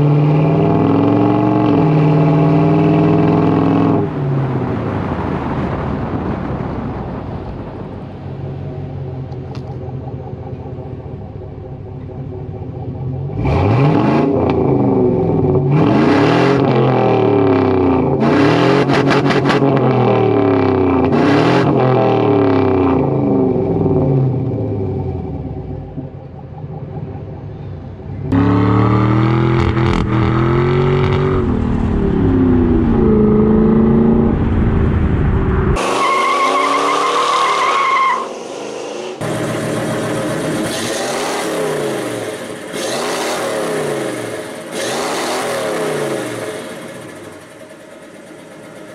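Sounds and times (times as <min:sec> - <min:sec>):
truck engine revving: 0:00.0 - 0:06.8, 0:08.2 - 0:48.9.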